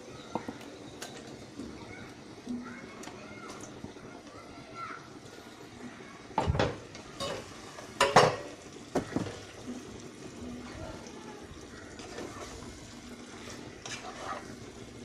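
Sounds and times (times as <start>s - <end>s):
pot hissing while cooking: 0.0s - 15.0s.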